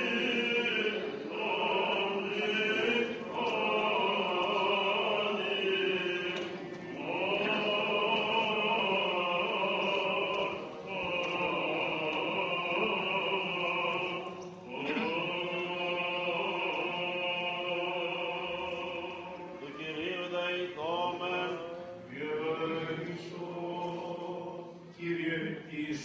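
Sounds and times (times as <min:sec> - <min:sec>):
low vocal drone: 0:00.0 - 0:26.0
man singing chant: 0:00.0 - 0:26.0.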